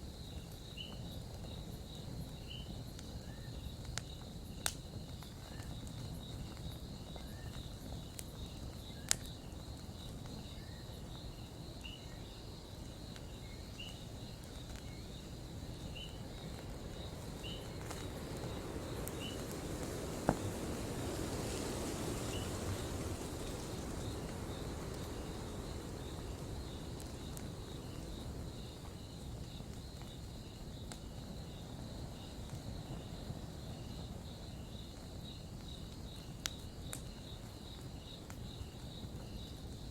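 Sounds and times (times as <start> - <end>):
campfire burning and crackling: 0.0 - 39.9
insects chirping: 0.0 - 39.9.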